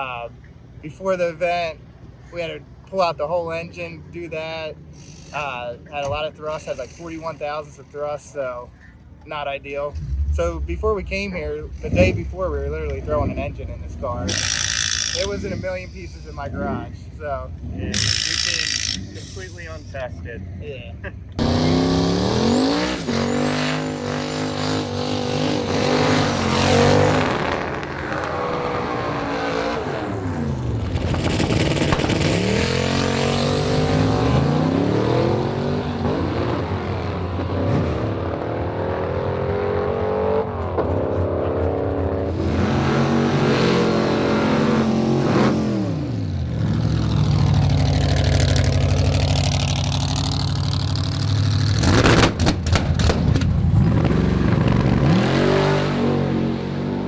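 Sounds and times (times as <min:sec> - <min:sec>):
racing car engine revving: 0:09.9 - 0:20.6, 0:21.3 - 0:57.0.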